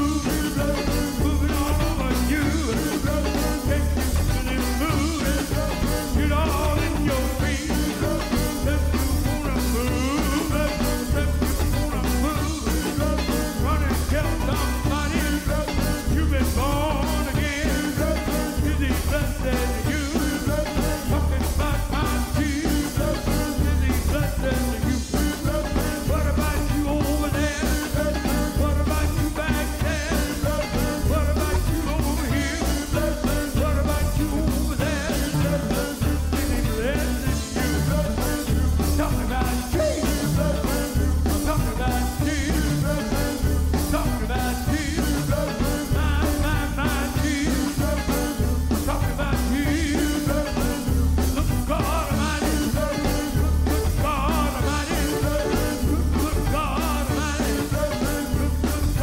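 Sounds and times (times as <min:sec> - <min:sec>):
electric guitar: 0:00.0 - 0:59.0
group vocal harmonies: 0:00.0 - 0:59.0
lead vocalist singing: 0:00.0 - 0:59.0
steady beat: 0:00.0 - 0:59.0.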